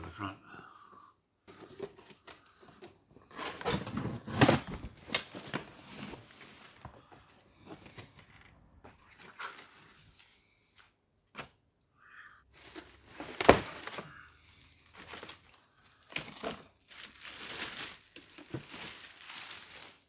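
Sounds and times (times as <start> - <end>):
cardboard packaging rustling: 1.5 - 10.4, 12.6 - 20.0.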